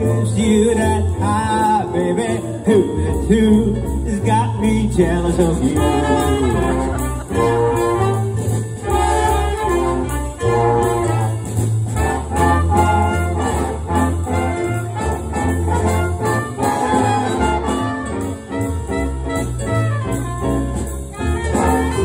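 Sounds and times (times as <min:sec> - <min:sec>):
big band swing music: 0:00.0 - 0:22.0.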